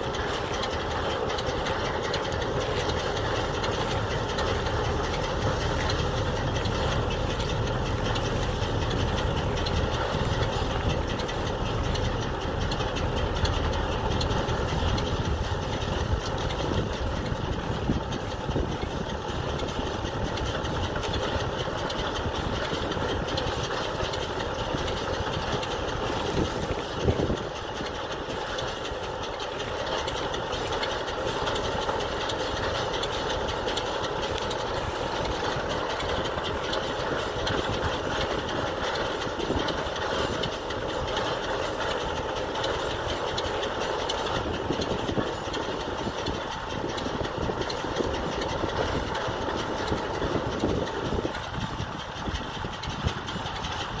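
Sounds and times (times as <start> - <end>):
baler rolling hay: 0.0 - 54.0
tractor engine under load: 0.0 - 54.0.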